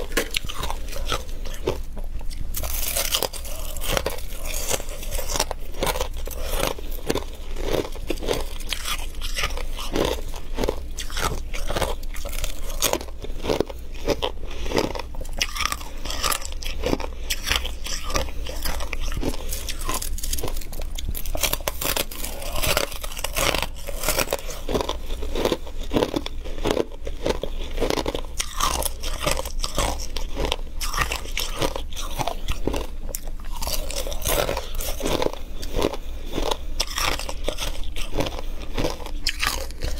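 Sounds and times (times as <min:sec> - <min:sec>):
crunching of frost being chewed: 0:00.0 - 0:39.9
low steady hum: 0:00.0 - 0:39.9.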